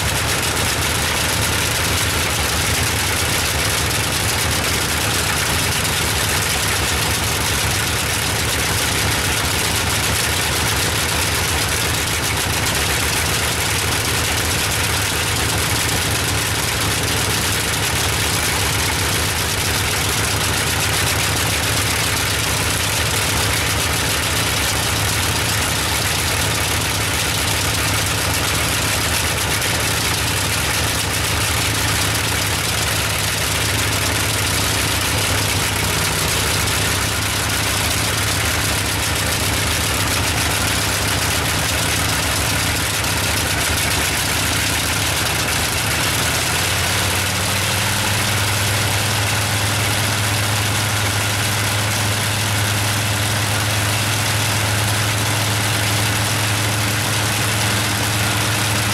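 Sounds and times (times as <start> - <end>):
radial engine running: 0.0 - 58.9.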